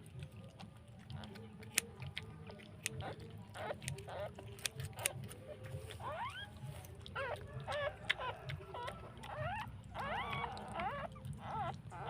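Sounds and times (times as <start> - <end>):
puppies squealing: 1.0 - 12.0.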